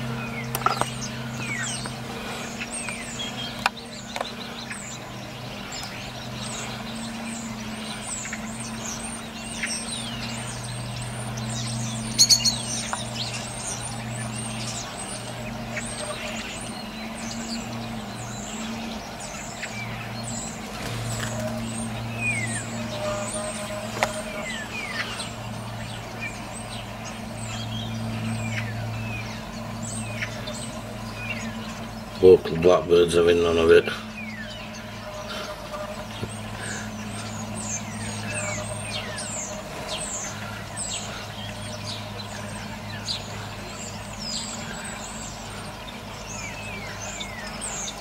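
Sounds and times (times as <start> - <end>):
low hum: 0.0 - 48.0
starlings whistling and chattering: 0.0 - 48.0.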